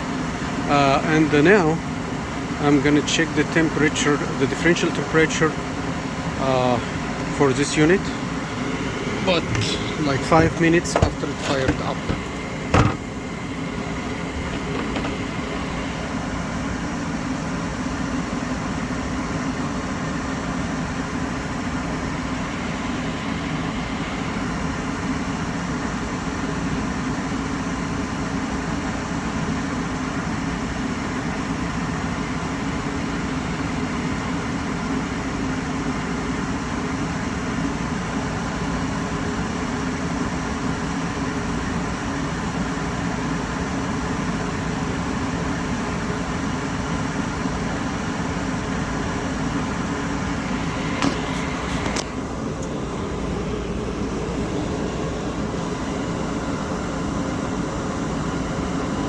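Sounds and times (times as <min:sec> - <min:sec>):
gas furnace blower humming: 0:00.0 - 0:59.0.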